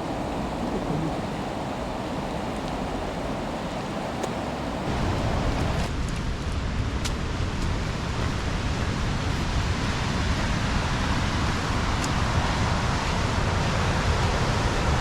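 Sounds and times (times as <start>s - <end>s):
river rushing: 0.0s - 15.0s
wind rumble on microphone: 0.0s - 15.0s.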